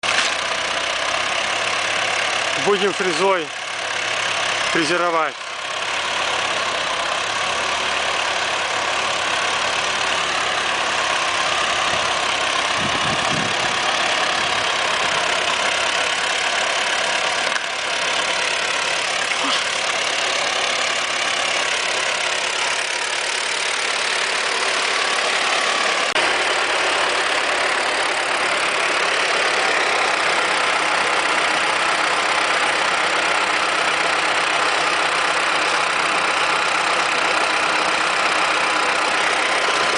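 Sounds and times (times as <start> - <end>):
rotary tiller churning soil: 0.0 - 39.9
tractor engine running: 0.0 - 39.9.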